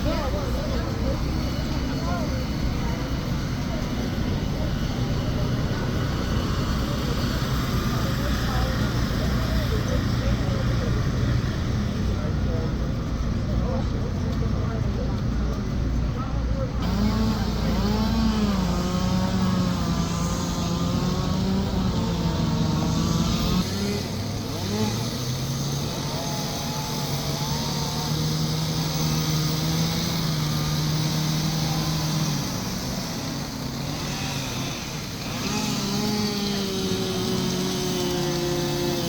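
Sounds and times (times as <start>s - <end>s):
chainsaws running: 0.0s - 39.0s.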